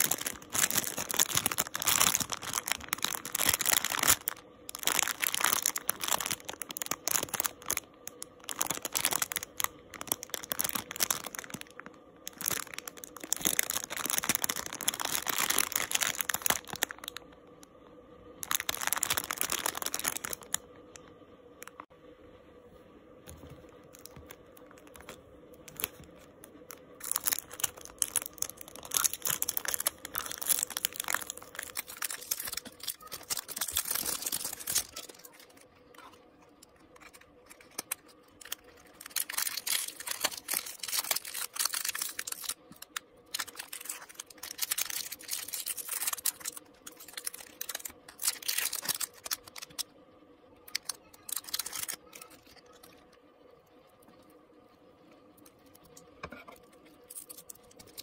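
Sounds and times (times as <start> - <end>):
plastic wrap crinkling: 0.0 - 17.4, 18.4 - 21.9, 23.3 - 49.9, 50.7 - 53.1, 57.0 - 58.0.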